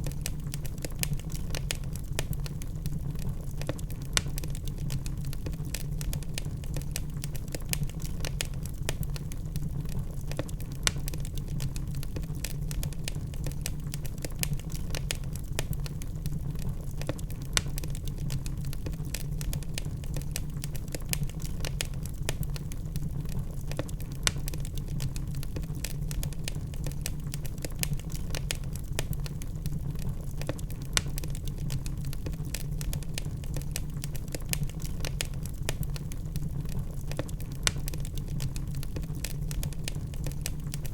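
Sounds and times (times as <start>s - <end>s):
logs crackling in fireplace: 0.0s - 40.9s.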